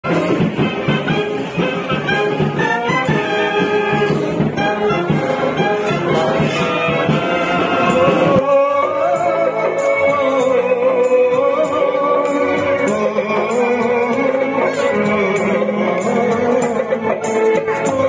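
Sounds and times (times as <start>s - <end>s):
military band playing: 0.0s - 18.0s
man singing with band: 2.7s - 18.0s.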